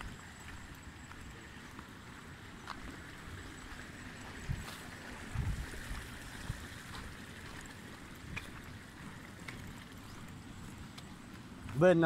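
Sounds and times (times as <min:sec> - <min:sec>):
footsteps on grass: 0:00.0 - 0:12.0
grass brushing against legs: 0:00.0 - 0:12.0.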